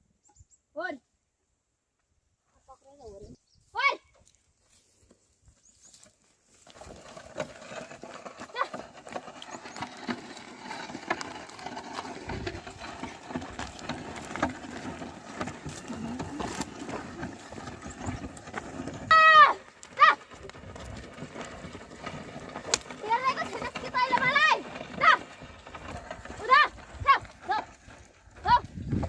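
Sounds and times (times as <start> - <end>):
hoof steps: 2.9 - 29.0
scraping and small knocks: 4.1 - 29.0.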